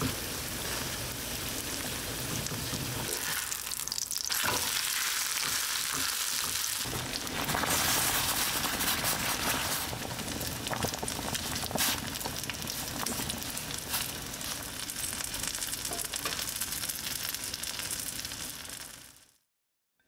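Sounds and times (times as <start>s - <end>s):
food sizzling in a pan: 0.0s - 19.4s.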